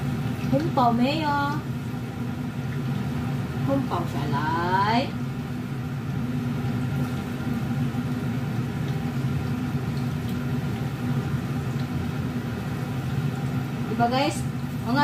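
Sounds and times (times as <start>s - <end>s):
extractor fan humming: 0.0s - 15.0s.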